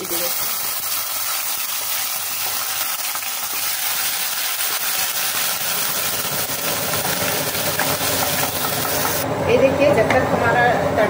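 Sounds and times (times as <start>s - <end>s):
hot oil sizzling in a pan: 0.0s - 9.2s.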